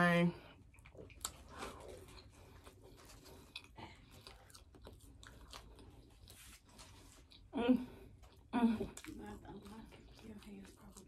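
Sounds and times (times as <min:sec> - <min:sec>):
faint crunchy chewing: 0:00.4 - 0:11.0.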